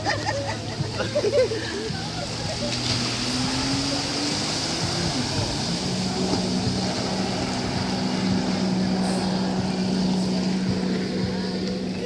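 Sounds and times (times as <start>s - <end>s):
constant rushing noise: 0.0s - 12.0s
engine humming: 0.0s - 12.0s.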